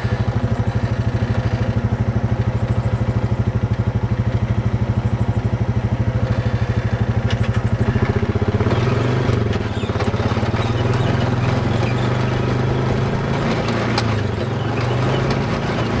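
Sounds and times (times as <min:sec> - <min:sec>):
atv engine idling and revving: 0:00.0 - 0:16.0.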